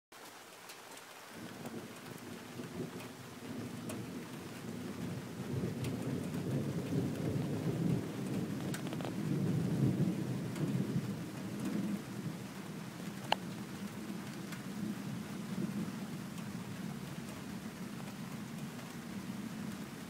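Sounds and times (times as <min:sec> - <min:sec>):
raindrop ticks: 0:00.2 - 0:20.0
rolling thunder rumble: 0:01.4 - 0:20.0.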